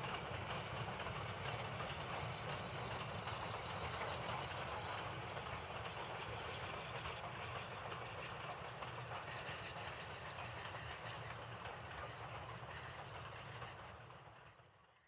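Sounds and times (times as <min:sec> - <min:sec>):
train wheels clattering over rails: 0:00.0 - 0:14.6.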